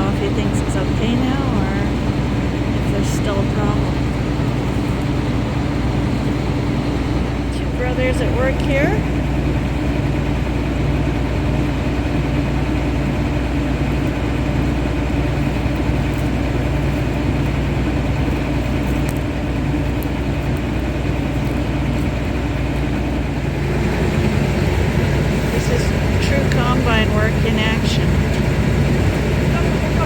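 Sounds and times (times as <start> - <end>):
combine harvester engine droning: 0.0 - 30.0.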